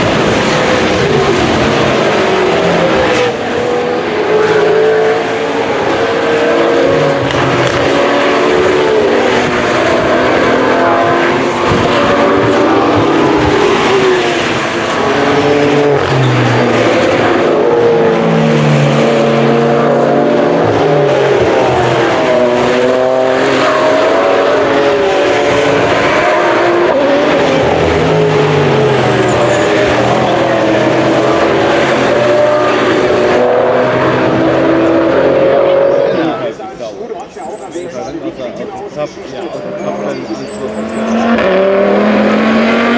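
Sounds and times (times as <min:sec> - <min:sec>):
race car engines passing: 0:00.0 - 0:42.9.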